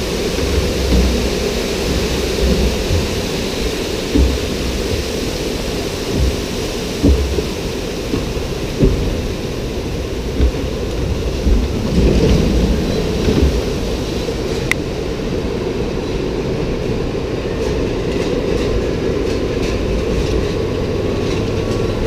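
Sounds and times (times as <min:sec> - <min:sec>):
clunks: 0:00.0 - 0:15.0, 0:15.9 - 0:22.0
ride vehicle rumbling on track: 0:00.0 - 0:22.0.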